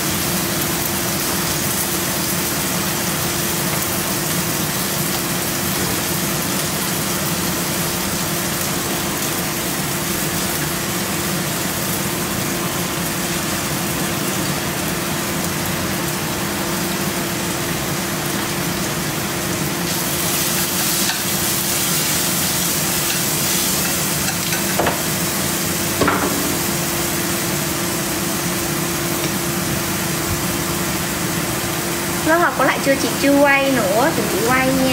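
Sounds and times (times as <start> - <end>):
food sizzling in a pan: 0.0 - 34.9.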